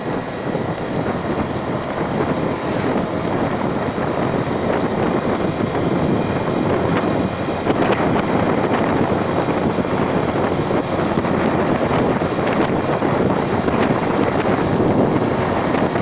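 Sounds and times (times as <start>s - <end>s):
vehicle running noise: 0.0s - 16.0s
wind buffeting microphone: 0.0s - 16.0s.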